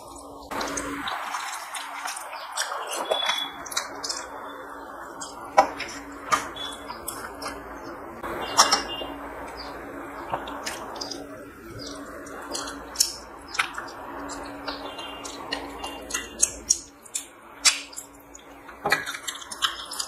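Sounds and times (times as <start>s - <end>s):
fingers mixing rice on metal plate: 0.0s - 20.0s.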